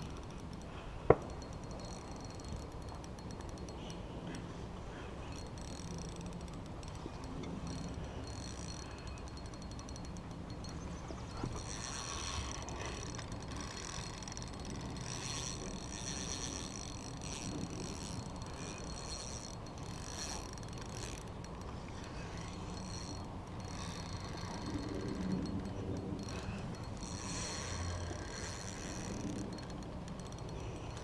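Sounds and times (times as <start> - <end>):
fishing reel ratchet clicking: 0.0 - 4.6, 5.2 - 31.0.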